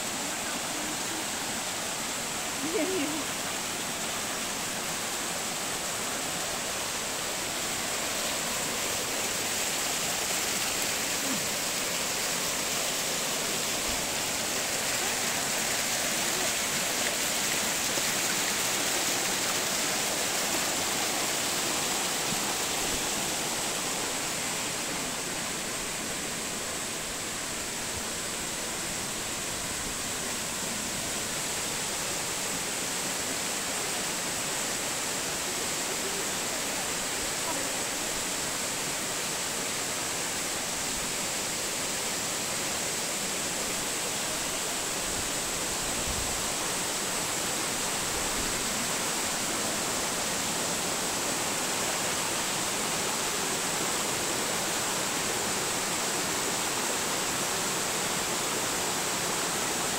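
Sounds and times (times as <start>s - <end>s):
waterfall rushing onto rocks: 0.0s - 59.9s.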